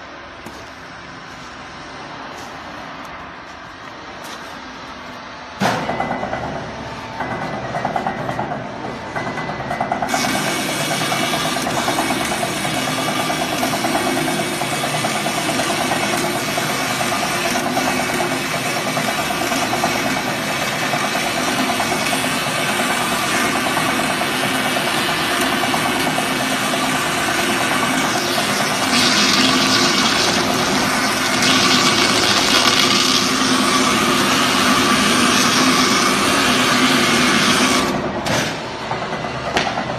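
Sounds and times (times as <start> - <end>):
tyre-cutting machine droning: 5.6 - 39.9.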